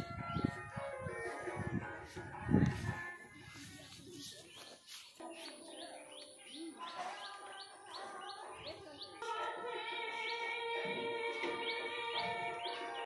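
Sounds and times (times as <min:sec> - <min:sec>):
music with held tones: 0:00.0 - 0:06.7, 0:09.1 - 0:13.0.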